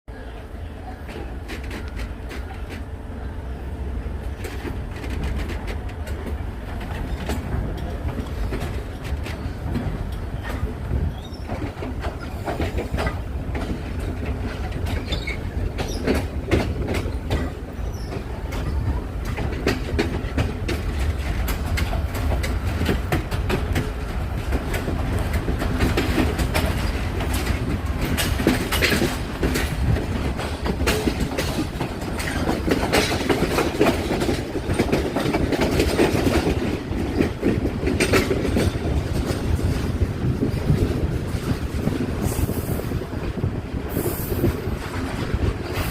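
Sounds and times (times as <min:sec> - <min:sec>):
train rumbling on rails: 0:00.1 - 0:45.9
wheel clicks over rail joints: 0:04.4 - 0:42.7.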